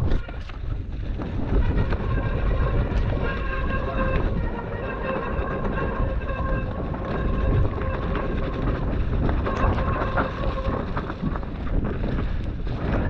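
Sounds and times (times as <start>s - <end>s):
bike knocking and rattling: 0.0s - 13.0s
bike tyre rumble: 0.0s - 13.0s
wind on microphone: 0.0s - 13.0s.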